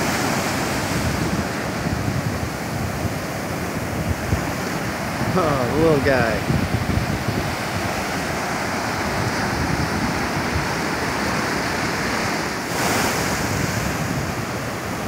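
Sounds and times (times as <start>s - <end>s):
waves breaking on beach: 0.0s - 15.0s
wind buffeting microphone: 0.0s - 15.0s.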